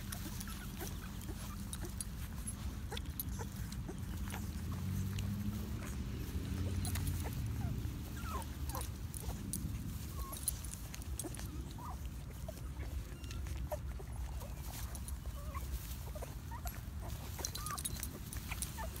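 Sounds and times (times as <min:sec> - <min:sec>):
puppies squeaking and whimpering: 0:00.0 - 0:19.0.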